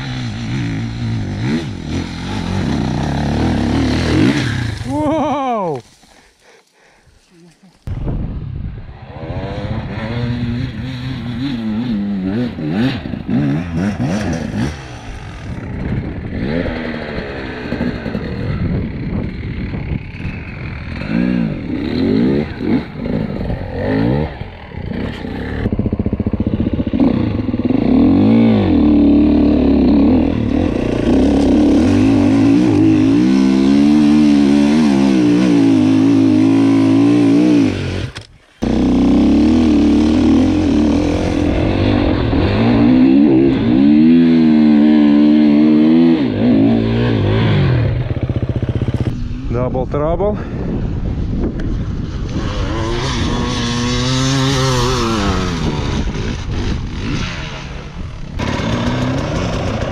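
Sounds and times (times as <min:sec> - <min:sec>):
motorcycle engine revving: 0:00.0 - 0:06.9, 0:08.9 - 0:59.9.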